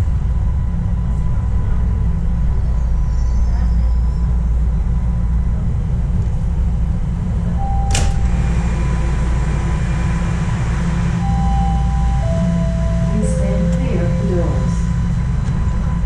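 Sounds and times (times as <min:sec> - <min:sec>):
subway train rumble: 0:00.0 - 0:16.0.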